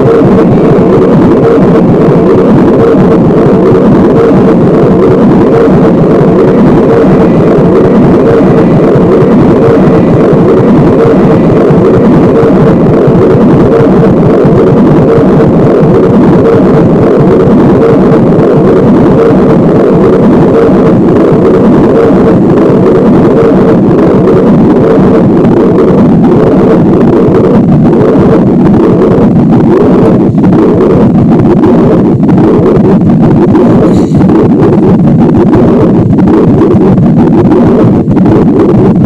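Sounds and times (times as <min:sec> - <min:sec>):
distorted electronic drone: 0:00.0 - 0:39.0
fast-pulsing mid-pitched tone: 0:00.0 - 0:39.0.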